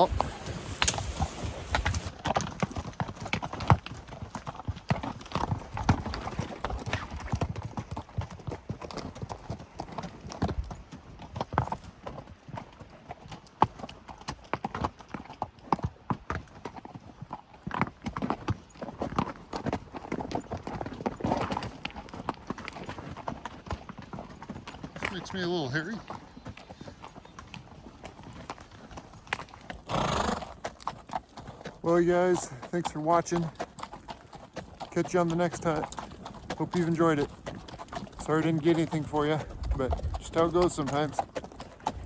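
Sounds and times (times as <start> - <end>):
horse hooves clopping: 0.0 - 42.0.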